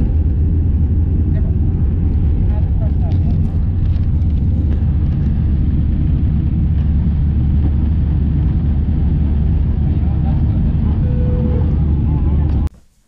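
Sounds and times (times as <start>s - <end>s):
jet engines rumbling in cabin: 0.0s - 12.7s.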